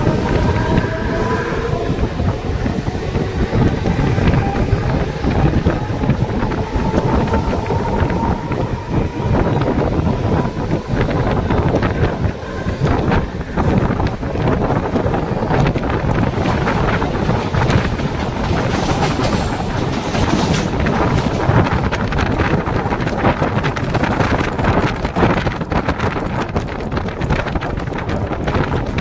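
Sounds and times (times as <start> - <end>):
passing train rush: 0.0 - 29.0
train rumbling: 0.0 - 29.0
wind buffeting microphone: 0.0 - 29.0.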